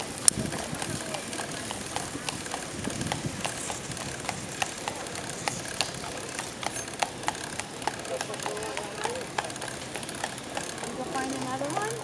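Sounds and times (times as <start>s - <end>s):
bicycle clicking: 0.0s - 12.0s
bicycle rushing noise: 0.0s - 12.0s.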